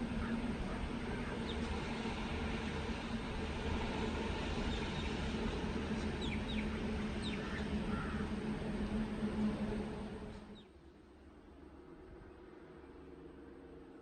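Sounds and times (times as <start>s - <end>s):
outdoor background hum: 0.0s - 14.0s.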